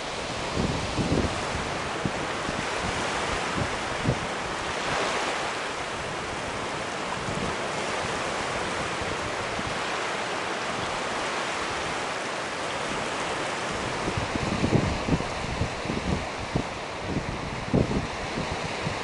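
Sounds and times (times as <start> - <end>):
waves breaking on sandy beach: 0.0 - 19.0
wind rumbling on microphone: 0.0 - 19.0.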